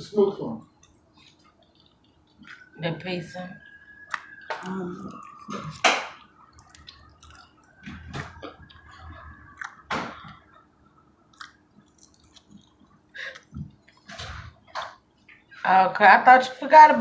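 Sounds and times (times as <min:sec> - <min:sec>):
chewing with wet mouth smacks: 0:00.6 - 0:15.5.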